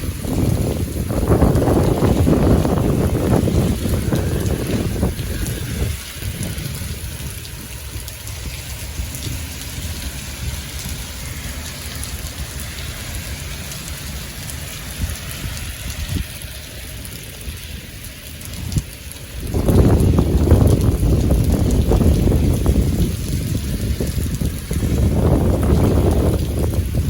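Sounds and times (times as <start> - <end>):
heavy rain falling: 0.0 - 27.0
wind rumble: 0.0 - 27.0.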